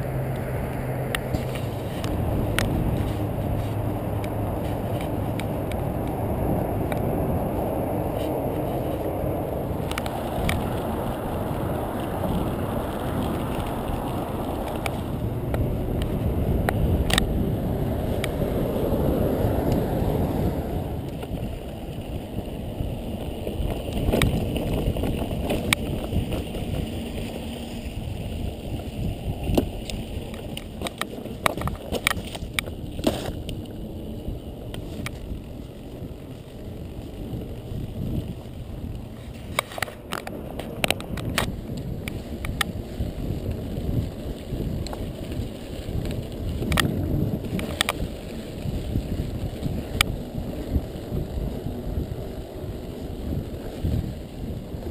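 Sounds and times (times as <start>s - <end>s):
bike rattles and clicks: 0.0s - 54.9s
bike tyre rumble: 0.0s - 54.9s
wind rushing on microphone: 0.0s - 54.9s.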